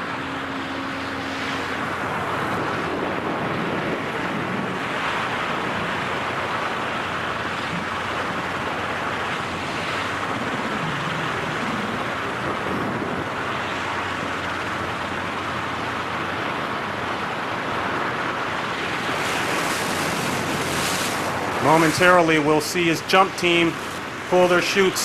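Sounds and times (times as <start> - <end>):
wind buffeting microphone: 0.0 - 24.4.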